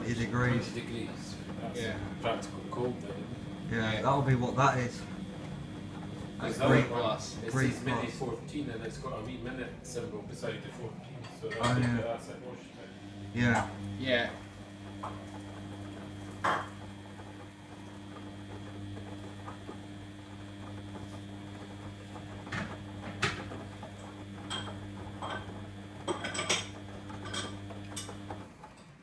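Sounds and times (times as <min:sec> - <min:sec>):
washing machine motor humming: 0:00.0 - 0:29.0.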